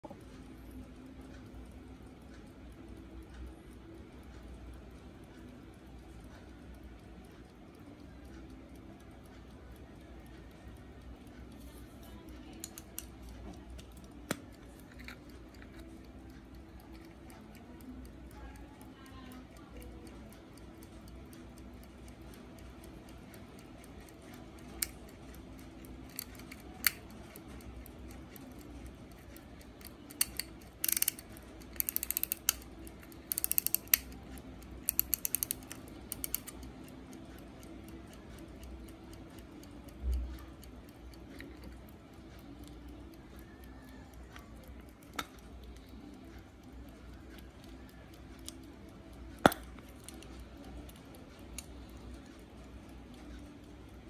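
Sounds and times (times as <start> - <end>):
pocket watch ticking: 0.0 - 54.0
watch crown clicking: 0.2 - 54.0.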